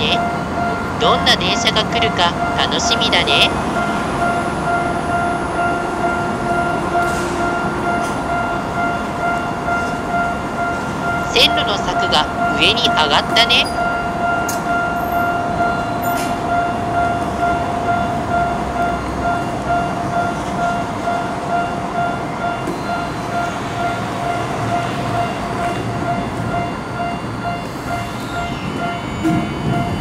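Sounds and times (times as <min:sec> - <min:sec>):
railroad crossing bell ringing: 0:00.0 - 0:30.0.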